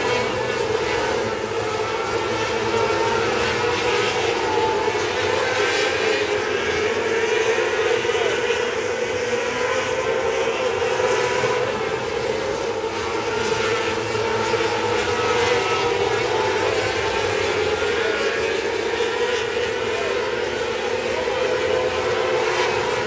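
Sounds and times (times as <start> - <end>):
race car engine drone: 0.0 - 23.0.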